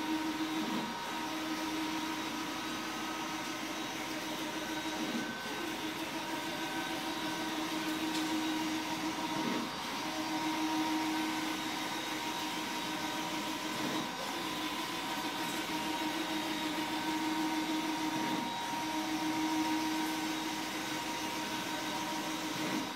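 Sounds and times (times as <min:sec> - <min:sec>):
print carriage drive hum: 0:00.0 - 0:22.9
printer machine whir: 0:00.0 - 0:22.9.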